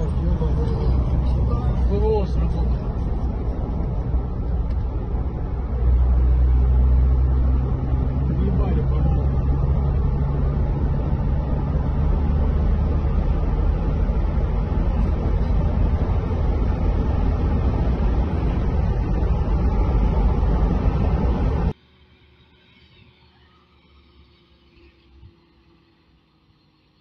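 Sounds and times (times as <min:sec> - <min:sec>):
road and engine rumble in car: 0:00.0 - 0:27.0.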